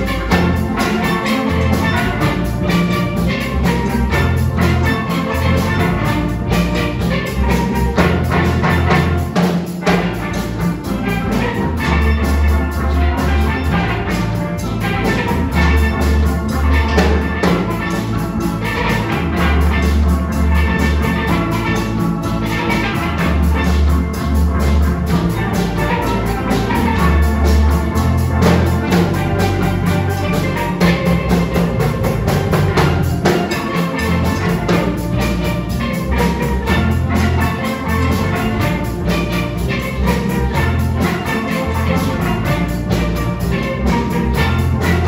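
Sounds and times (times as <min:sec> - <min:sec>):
bass line: 0:00.0 - 0:45.0
drums keeping time: 0:00.0 - 0:45.0
steel pans playing melody: 0:00.0 - 0:45.0.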